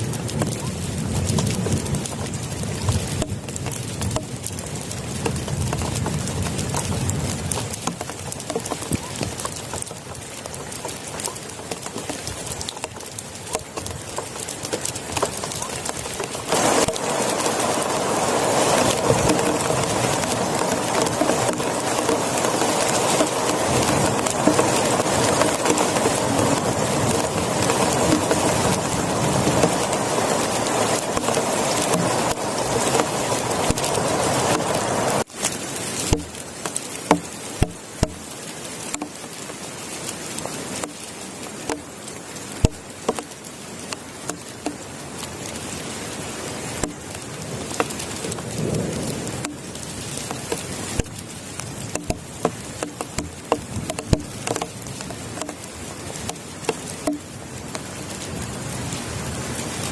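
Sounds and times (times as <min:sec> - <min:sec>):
heavy rain: 0:00.0 - 0:59.9
large raindrops tapping: 0:00.0 - 0:59.9.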